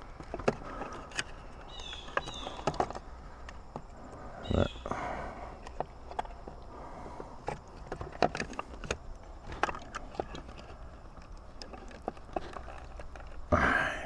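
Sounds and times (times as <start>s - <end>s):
small parts clicking and tapping: 0.0s - 4.2s, 5.5s - 6.8s, 7.4s - 13.6s.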